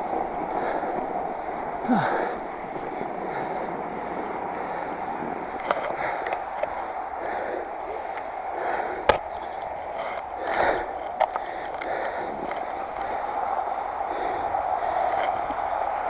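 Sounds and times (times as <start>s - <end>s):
bike tires crunching over snow: 0.0s - 16.0s.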